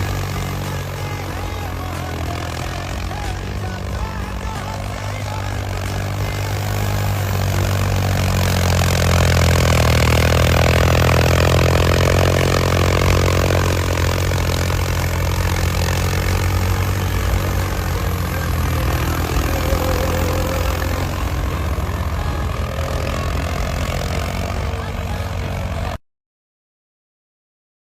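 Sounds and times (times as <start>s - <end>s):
heavy vehicle engine running: 0.0s - 26.0s.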